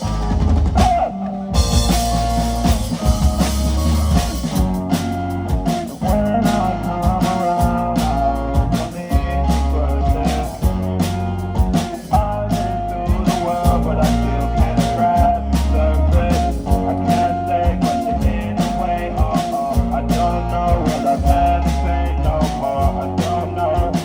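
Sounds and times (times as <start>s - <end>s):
blues-rock band music: 0.0s - 24.0s.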